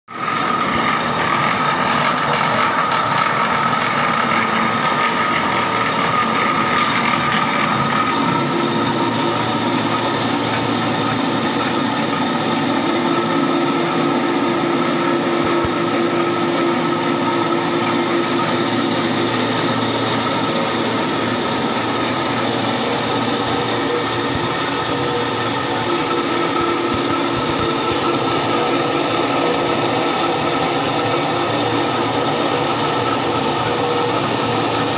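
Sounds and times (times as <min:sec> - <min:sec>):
pellet machine humming and grinding: 0:00.1 - 0:34.9.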